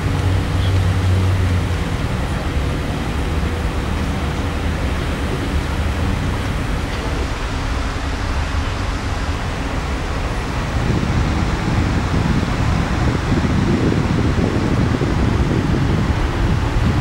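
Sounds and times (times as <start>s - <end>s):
city traffic: 0.0s - 17.0s
fountain jets hissing: 0.0s - 17.0s.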